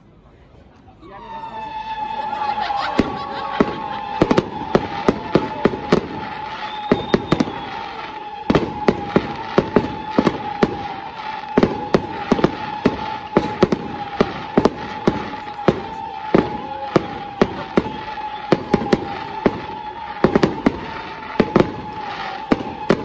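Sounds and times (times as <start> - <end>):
fireworks bangs: 1.2 - 23.0.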